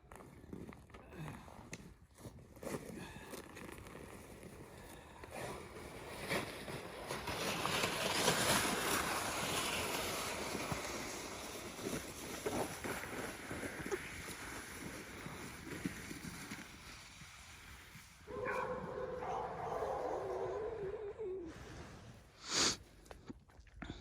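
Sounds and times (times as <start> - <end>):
sled sliding over icy snow: 0.0 - 22.4.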